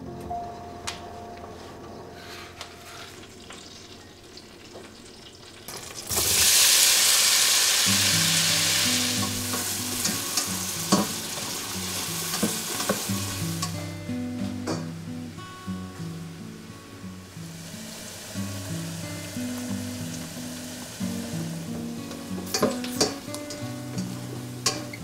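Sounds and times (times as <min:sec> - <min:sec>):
onion sizzling in butter: 0:02.8 - 0:25.0.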